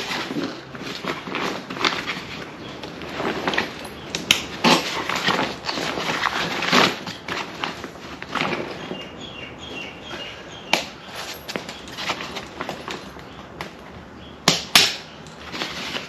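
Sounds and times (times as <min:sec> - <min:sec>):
canvas rustling: 0:00.0 - 0:10.3, 0:11.0 - 0:13.4, 0:15.4 - 0:16.0.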